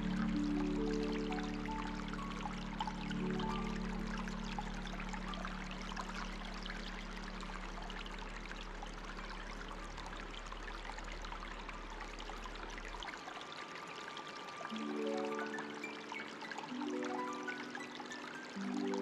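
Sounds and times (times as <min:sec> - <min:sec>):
low held background tone: 0:00.0 - 0:19.0
water trickling like a stream: 0:00.0 - 0:19.0.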